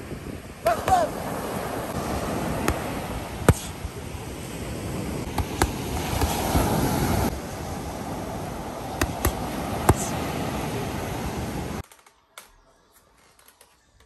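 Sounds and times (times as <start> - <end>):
waves washing on beach: 0.0 - 11.8.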